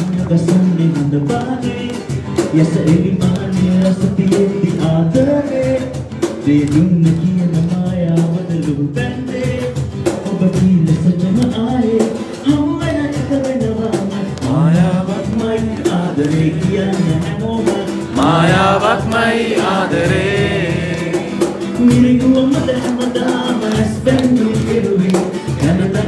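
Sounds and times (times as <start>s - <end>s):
man singing: 0.0s - 26.0s
strummed acoustic guitar: 0.0s - 26.0s.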